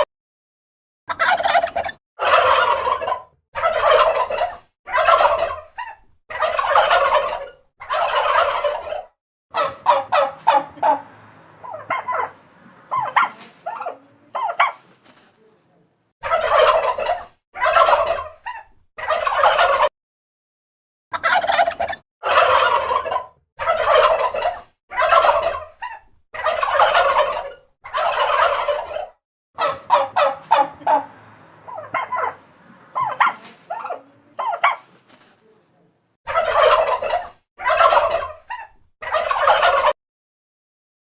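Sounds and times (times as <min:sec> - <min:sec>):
turkey gobbling: 0:01.1 - 0:15.3, 0:16.2 - 0:19.9, 0:21.1 - 0:35.2, 0:36.3 - 0:40.0.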